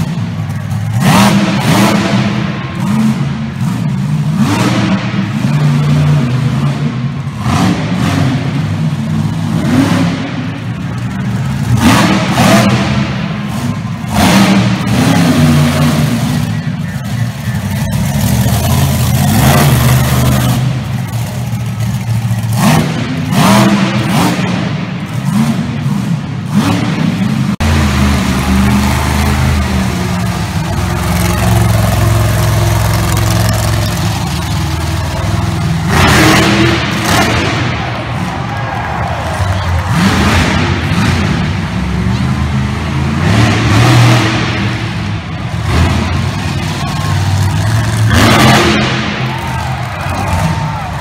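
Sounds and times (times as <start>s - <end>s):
truck engines revving: 0.0s - 51.0s.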